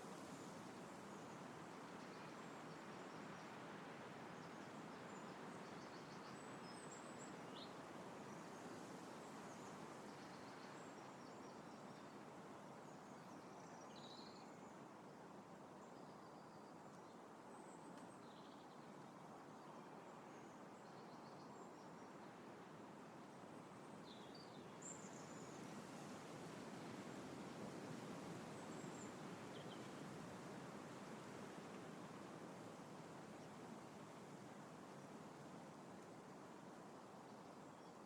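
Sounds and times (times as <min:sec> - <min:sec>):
wind through trees: 0:00.0 - 0:38.0.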